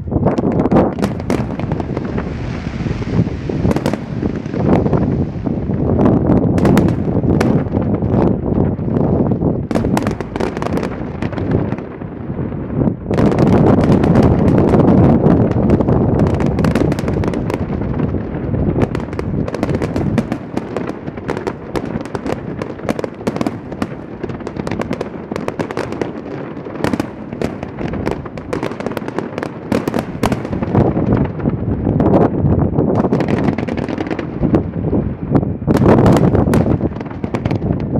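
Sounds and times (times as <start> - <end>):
fireworks crackling and popping: 0.0 - 37.9.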